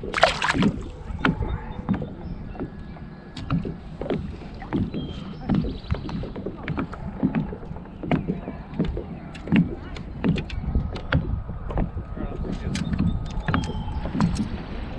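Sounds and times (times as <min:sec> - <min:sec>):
water lapping against kayak hull: 0:00.0 - 0:14.9
soft knocks on hull: 0:00.1 - 0:14.4.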